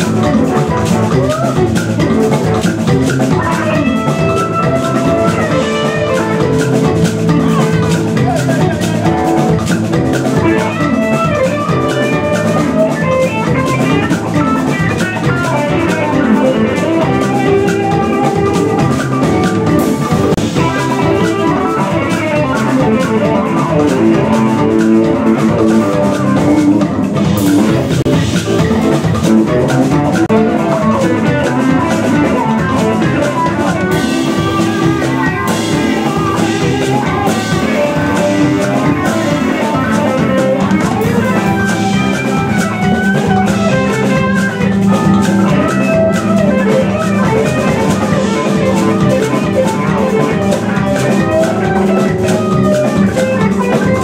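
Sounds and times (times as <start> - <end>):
drum kit: 0.0 - 54.0
electric guitars: 0.0 - 54.0
hand drums: 0.0 - 54.0
live band playing: 0.0 - 54.0.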